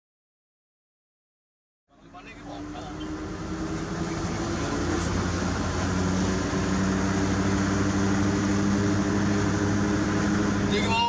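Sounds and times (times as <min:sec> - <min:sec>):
truck diesel engine droning: 0:01.9 - 0:11.0.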